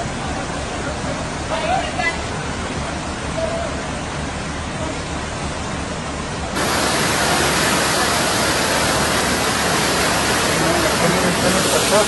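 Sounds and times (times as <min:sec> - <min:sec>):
rushing floodwater roar: 0:00.0 - 0:12.0.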